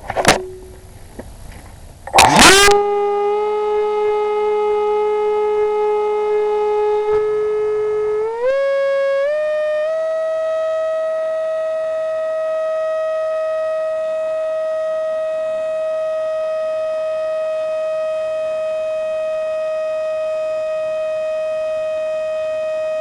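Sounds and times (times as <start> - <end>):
loud steady whine: 0.0 - 23.0.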